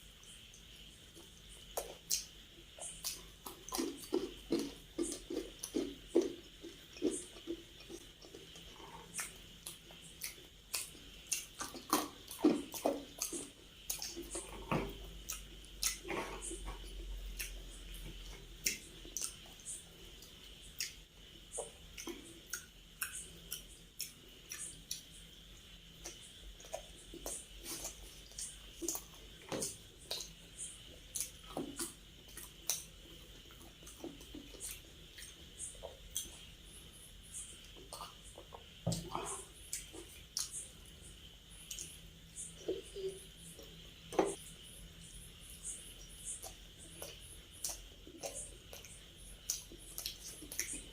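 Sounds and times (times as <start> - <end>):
wet chewing and mouth smacking: 0.2 - 44.6, 45.6 - 50.9.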